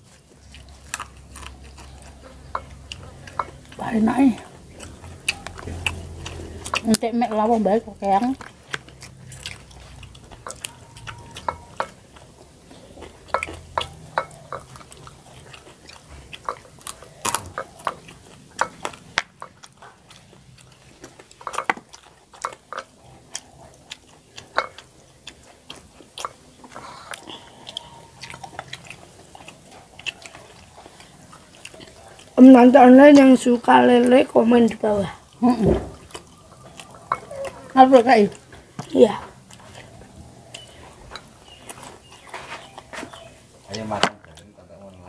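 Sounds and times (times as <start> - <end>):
chewing and eating: 0.0 - 45.0.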